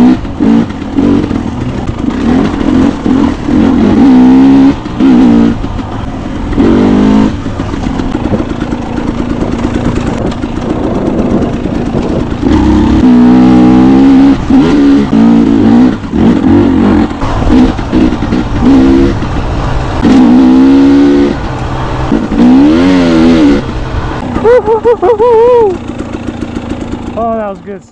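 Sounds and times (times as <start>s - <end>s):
dirt bike engine revving: 0.0s - 27.4s.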